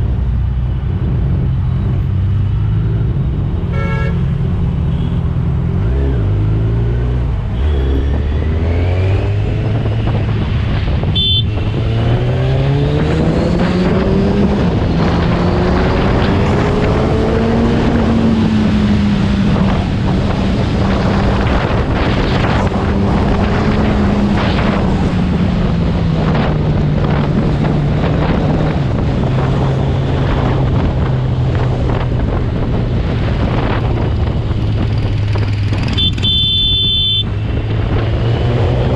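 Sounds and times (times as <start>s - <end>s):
wind and road noise: 0.0s - 38.9s
motorcycle engine accelerating: 4.4s - 38.9s.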